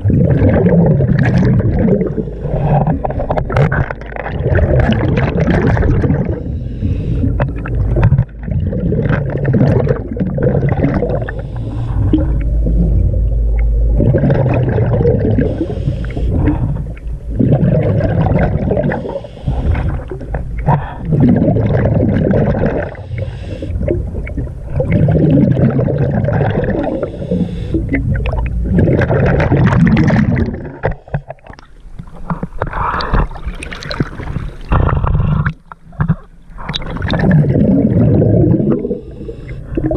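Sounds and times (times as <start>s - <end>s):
exhaled bubbles gurgling: 0.0s - 39.9s
low underwater rumble: 0.0s - 39.9s.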